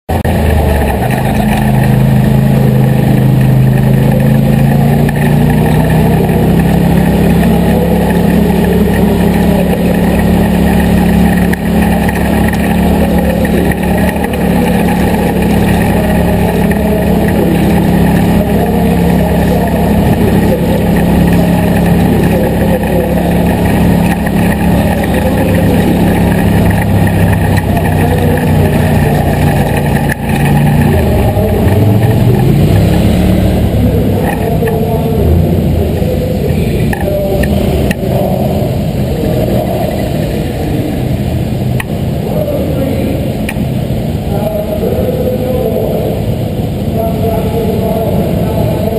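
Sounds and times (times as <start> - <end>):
race car engine running: 0.0 - 48.9.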